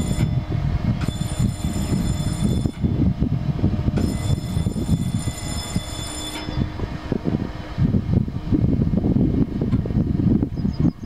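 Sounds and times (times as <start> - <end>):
diesel locomotive engine chugging: 0.0 - 11.0
high steady whine: 0.0 - 11.0.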